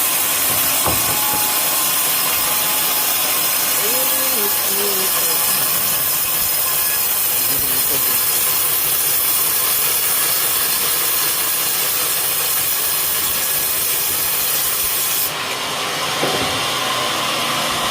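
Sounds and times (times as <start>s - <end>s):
sawmill blade cutting wood: 0.0s - 17.9s.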